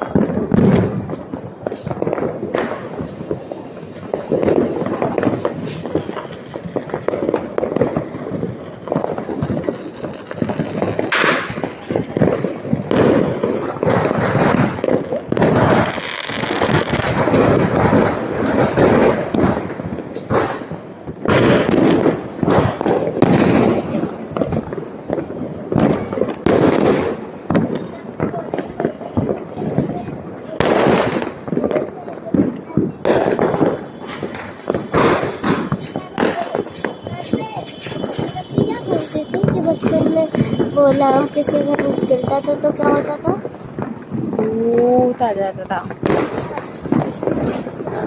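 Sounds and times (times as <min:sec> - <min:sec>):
fireworks bangs and crackling: 0:00.0 - 0:48.0.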